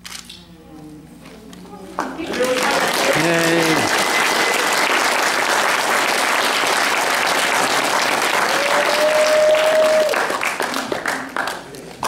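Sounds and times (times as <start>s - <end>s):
crowd applauding: 2.0s - 12.0s.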